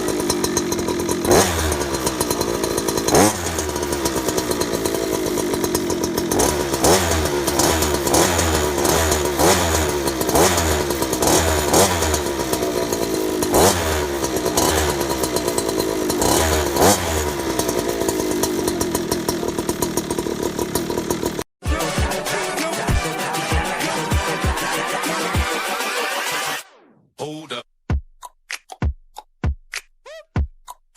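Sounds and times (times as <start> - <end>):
scooter engine revving: 0.0 - 26.9.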